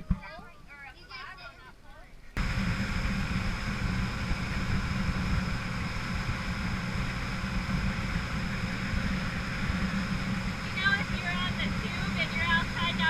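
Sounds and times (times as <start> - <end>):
boat rushing on water: 2.4 - 13.0
motorboat engine running: 2.4 - 13.0.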